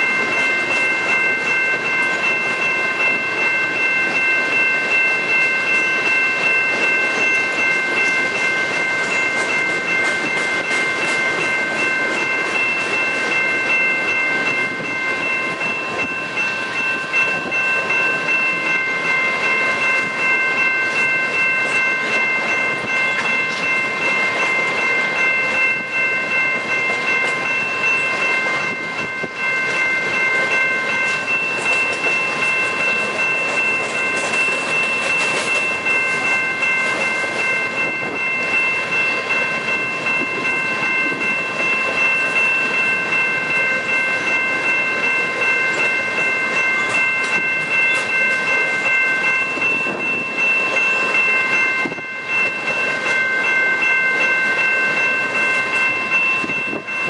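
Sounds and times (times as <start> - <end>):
train cars rolling on rails: 0.0 - 57.0
wheels clacking: 0.0 - 57.0.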